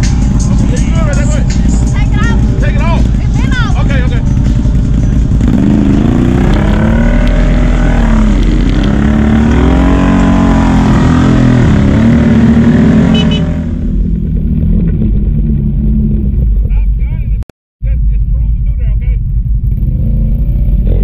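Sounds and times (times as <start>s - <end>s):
atv engine revving: 0.0s - 16.9s, 18.0s - 21.0s.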